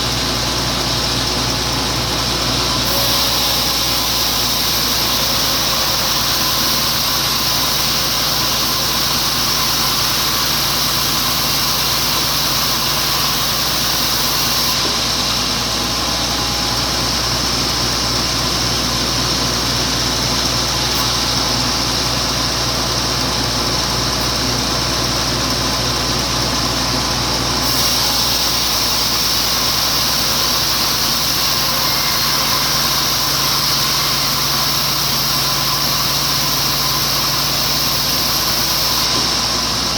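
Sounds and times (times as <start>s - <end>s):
sawmill sawing log: 0.0s - 39.9s.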